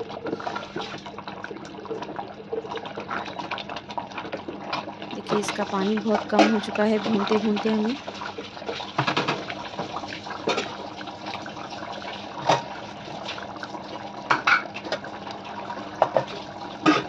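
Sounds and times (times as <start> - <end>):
thick sauce bubbling and spluttering: 0.0 - 17.0.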